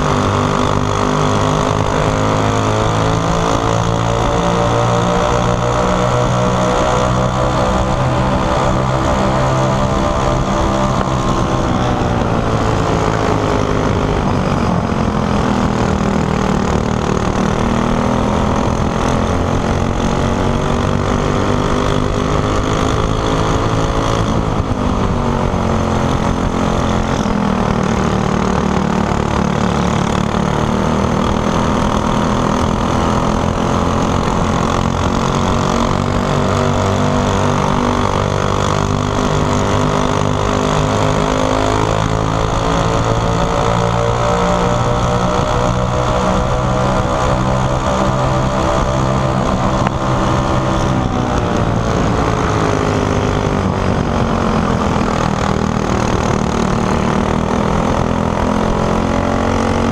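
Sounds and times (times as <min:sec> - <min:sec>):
racing kart engine revving: 0:00.0 - 0:59.9.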